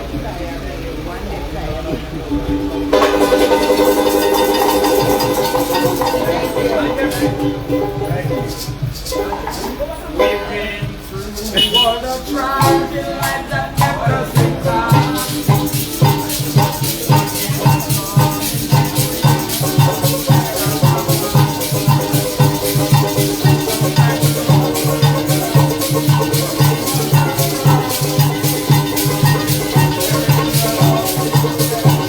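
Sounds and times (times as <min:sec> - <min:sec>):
band playing instrumental music: 0:02.0 - 0:32.0
maracas shaking: 0:02.4 - 0:32.0.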